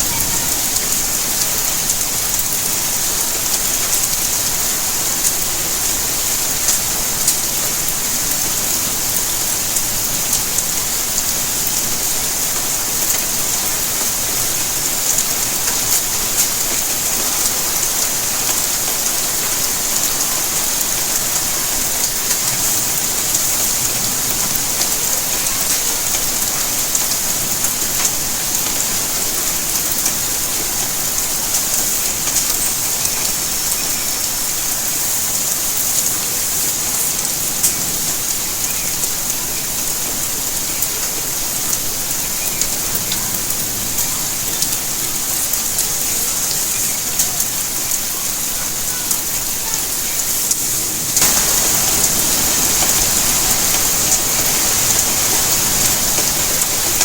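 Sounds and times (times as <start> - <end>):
sharp ticks of raindrops: 0.0 - 57.0
steady rainfall hiss: 0.0 - 57.0.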